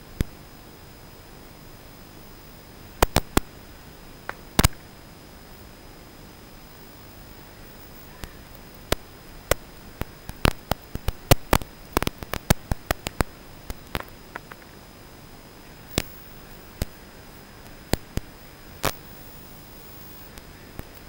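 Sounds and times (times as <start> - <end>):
radio static hiss: 0.0 - 21.0
static clicks and crackles: 0.0 - 21.0.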